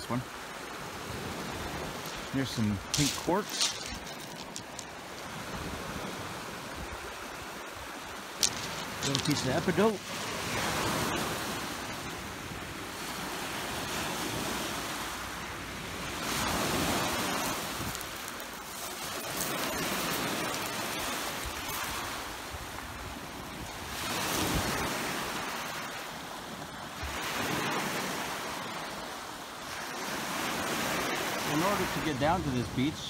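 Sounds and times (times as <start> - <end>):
waves washing onto pebbles: 0.0 - 33.0.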